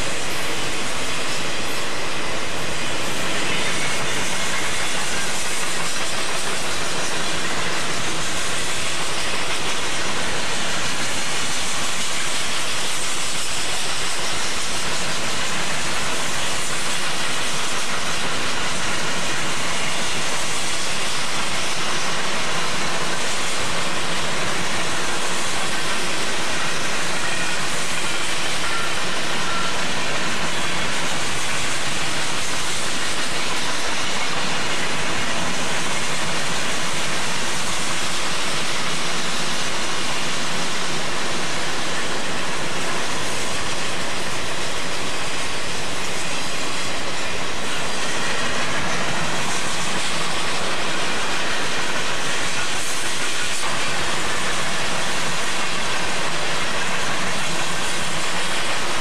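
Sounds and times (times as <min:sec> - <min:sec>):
hiss: 0:00.0 - 0:59.0
train wheels rolling on rail: 0:00.0 - 0:59.0.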